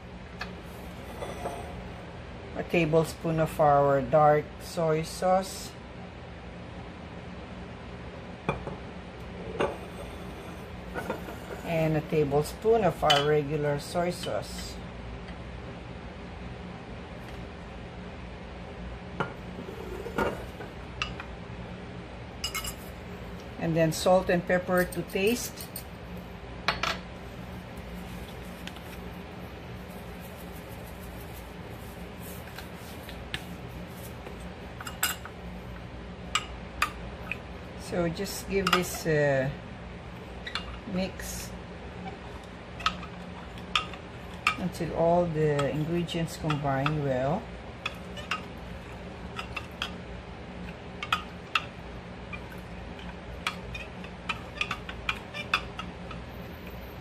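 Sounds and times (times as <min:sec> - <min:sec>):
low room hum: 0:00.0 - 0:57.0.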